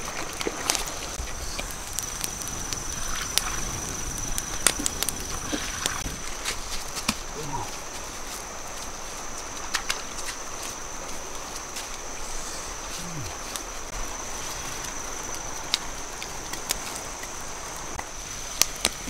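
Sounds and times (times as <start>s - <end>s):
faint hiss: 0.0s - 19.0s
wood fire crackling: 0.0s - 19.0s.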